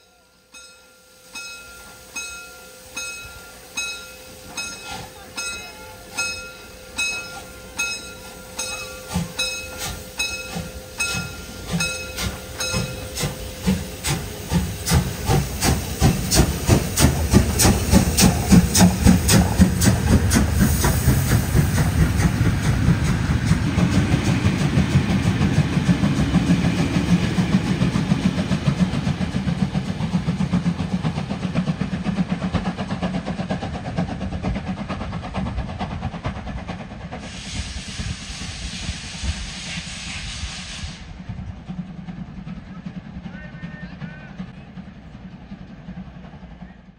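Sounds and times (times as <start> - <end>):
steam locomotive exhaust chuffs: 0.1 - 46.9.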